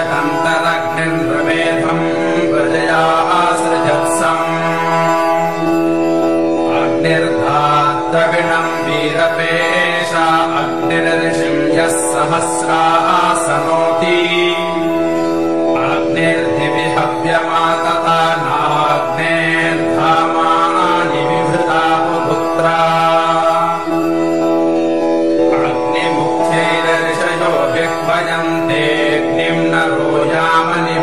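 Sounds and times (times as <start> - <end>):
devotional music with drone: 0.0 - 31.0.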